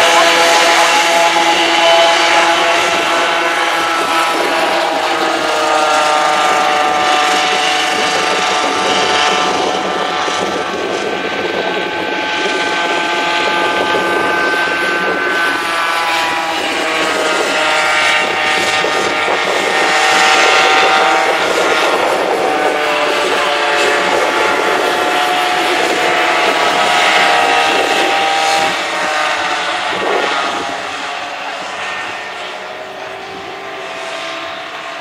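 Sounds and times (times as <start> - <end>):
kart engines buzzing: 0.0 - 35.0.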